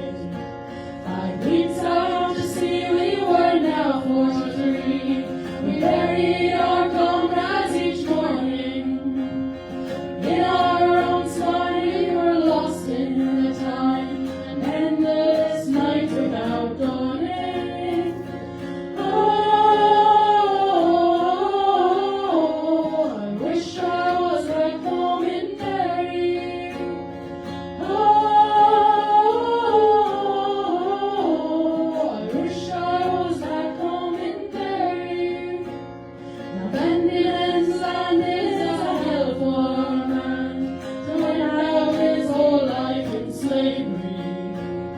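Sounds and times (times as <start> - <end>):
voices singing in harmony: 0.0 - 44.9.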